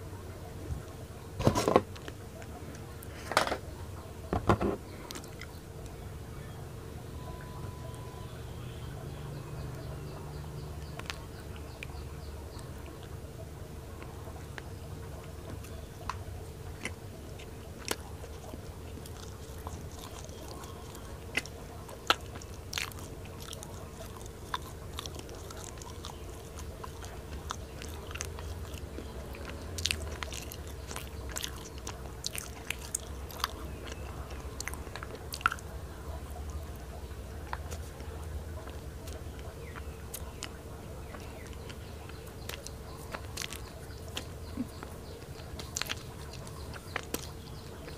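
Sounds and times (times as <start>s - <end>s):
chewing pastry: 0.0s - 47.9s
faint steady hum: 0.0s - 47.9s.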